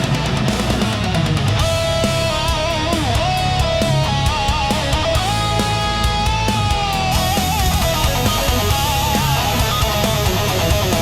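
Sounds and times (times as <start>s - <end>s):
distorted rhythm guitar: 0.0s - 11.0s
fast drums: 0.0s - 11.0s
lead electric guitar melody: 0.0s - 11.0s.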